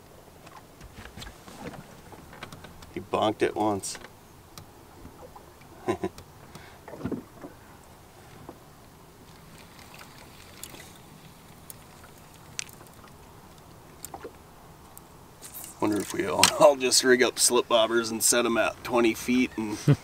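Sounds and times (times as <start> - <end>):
faint hiss of wind and water: 0.0 - 20.0.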